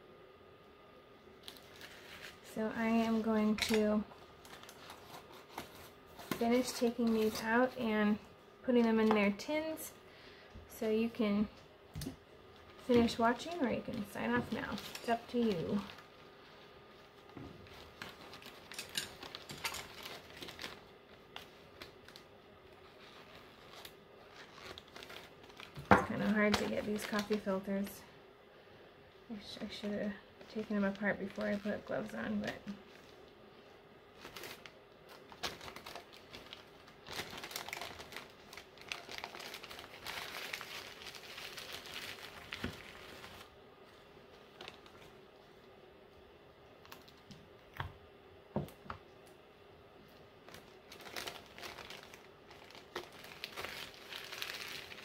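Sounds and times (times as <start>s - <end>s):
paper filters crinkling: 1.4s - 9.9s, 11.0s - 28.0s, 29.3s - 45.8s, 46.7s - 47.9s, 50.0s - 55.0s.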